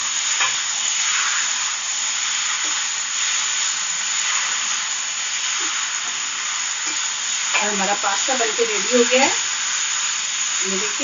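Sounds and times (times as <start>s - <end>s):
pasta sizzling in a pan: 0.0s - 11.0s.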